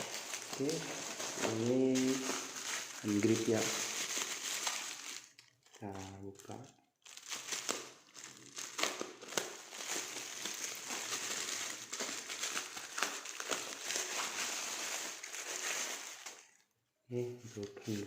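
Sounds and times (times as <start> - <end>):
packaging wrap crinkling: 0.0 - 16.6.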